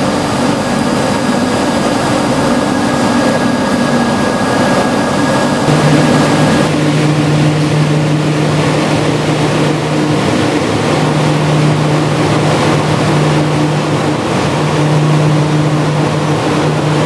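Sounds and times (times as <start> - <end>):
loud machinery rushing and humming: 0.0 - 17.0.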